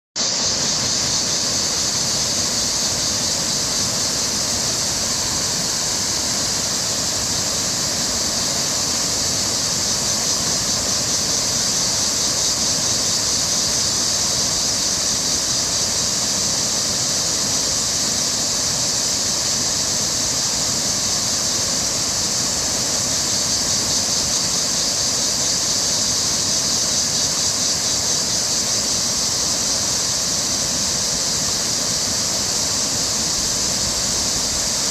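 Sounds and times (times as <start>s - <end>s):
river water rushing over rocks: 0.2s - 34.9s.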